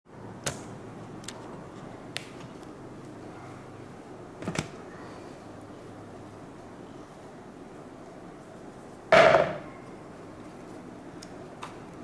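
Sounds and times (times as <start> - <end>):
low hiss and hum: 0.1 - 12.0.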